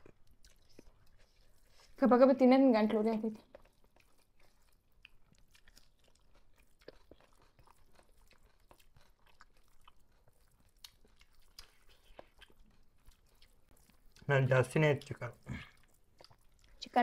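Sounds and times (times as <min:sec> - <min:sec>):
wet chewing and lip-smacking: 0:00.0 - 0:02.0, 0:02.8 - 0:17.0.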